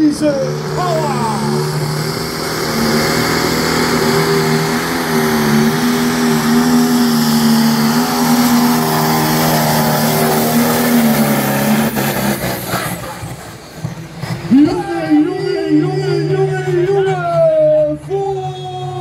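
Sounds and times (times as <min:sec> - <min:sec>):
tractor engine at full throttle: 0:00.0 - 0:19.0.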